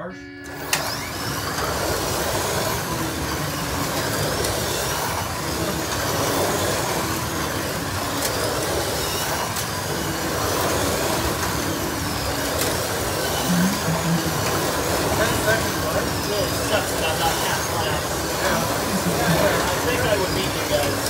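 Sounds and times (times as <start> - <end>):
slot car motors whining: 0.0 - 21.0
steady rushing noise: 1.6 - 21.0.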